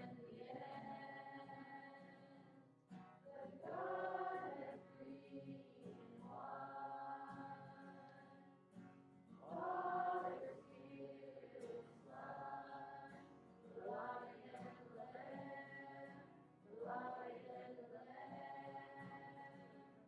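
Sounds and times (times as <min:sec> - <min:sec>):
group singing worship song: 0:00.0 - 0:02.4, 0:03.3 - 0:08.4, 0:09.4 - 0:20.0.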